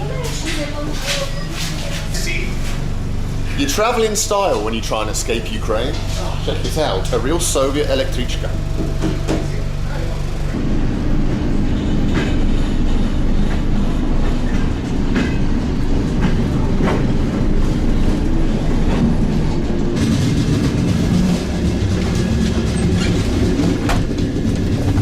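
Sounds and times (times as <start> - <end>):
electric train rumble and motor hum: 0.0 - 25.0.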